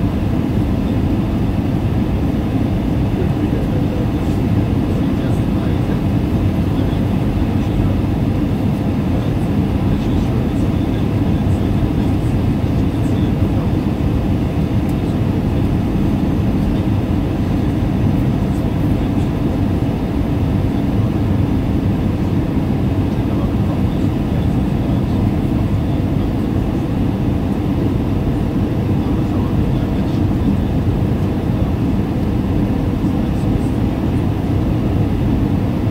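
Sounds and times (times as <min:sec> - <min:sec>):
airliner cabin low rumble: 0:00.0 - 0:35.9.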